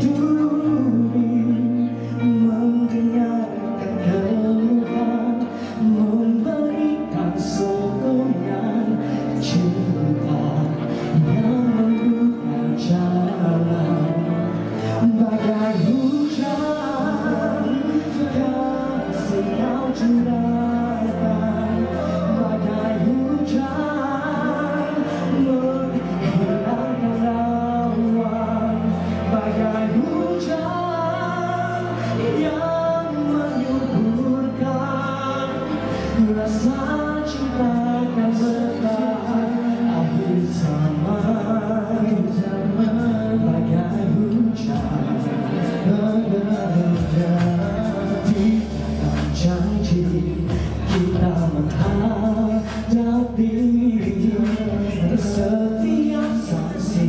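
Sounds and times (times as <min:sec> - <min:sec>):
instrumental accompaniment: 0:00.0 - 0:57.0
men singing into microphones: 0:00.0 - 0:57.0.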